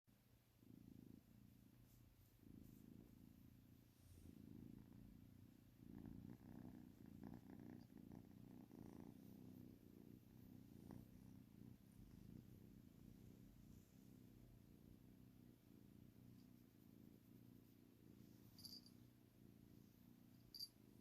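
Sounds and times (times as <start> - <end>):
kitten purring: 0.2 - 21.0.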